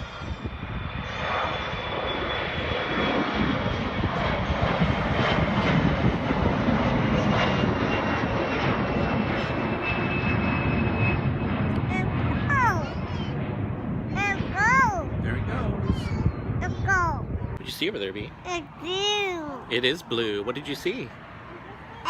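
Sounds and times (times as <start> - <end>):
airliner engines passing: 0.0 - 22.0.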